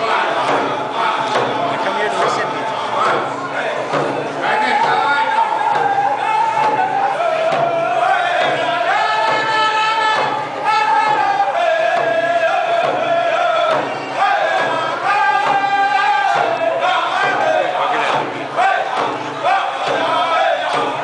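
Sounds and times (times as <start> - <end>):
singers chanting in unison: 0.0 - 21.0.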